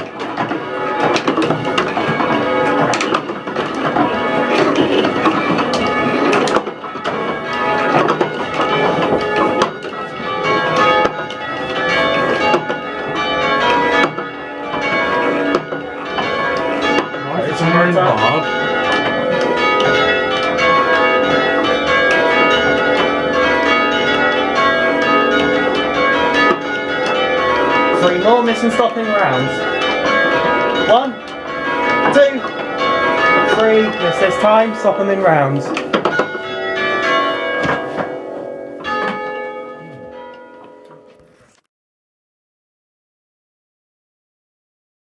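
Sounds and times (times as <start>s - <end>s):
church bells change ringing: 0.0s - 41.5s.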